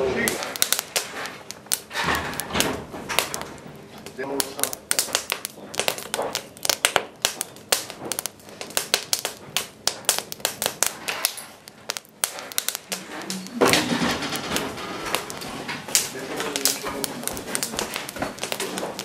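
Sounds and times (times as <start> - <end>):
coal fire crackling and popping: 0.0 - 19.0.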